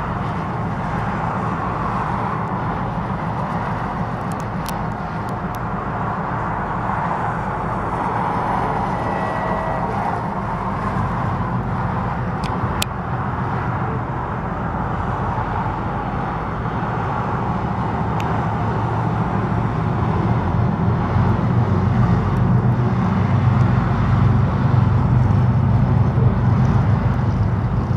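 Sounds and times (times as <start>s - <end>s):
diesel locomotive engine drone: 0.0s - 27.9s.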